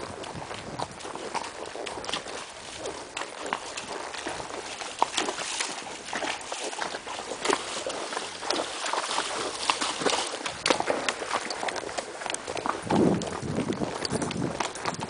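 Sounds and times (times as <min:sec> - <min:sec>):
horse hooves walking: 0:00.0 - 0:15.0.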